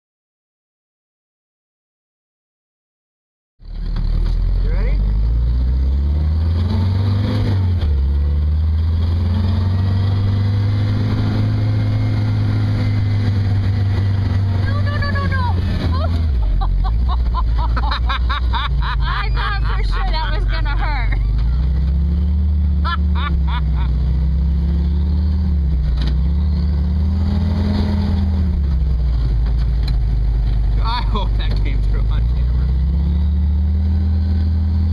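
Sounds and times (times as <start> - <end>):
car engine droning while driving: 3.6 - 34.9.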